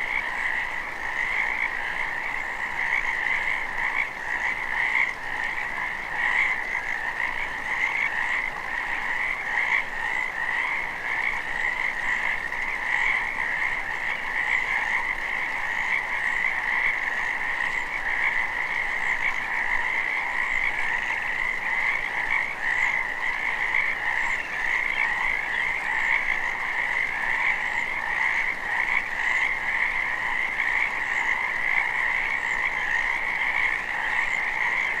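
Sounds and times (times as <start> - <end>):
frogs croaking in chorus: 0.0 - 35.0.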